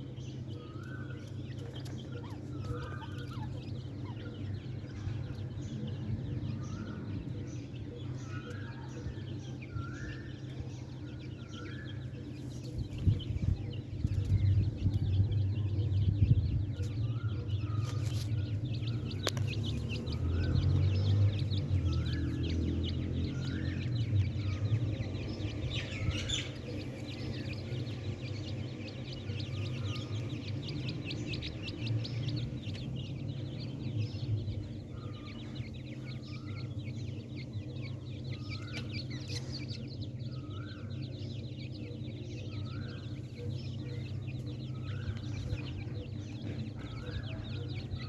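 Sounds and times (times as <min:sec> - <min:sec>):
bird chicks peeping: 0:00.0 - 0:48.0
steady low hum: 0:00.0 - 0:48.0.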